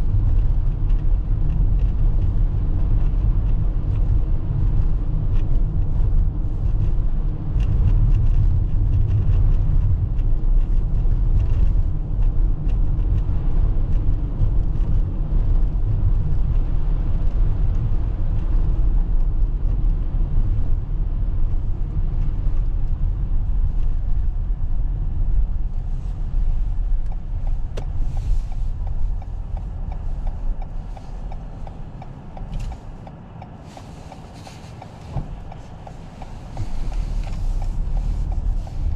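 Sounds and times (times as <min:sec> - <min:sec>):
tyre and road rumble: 0:00.0 - 0:38.9.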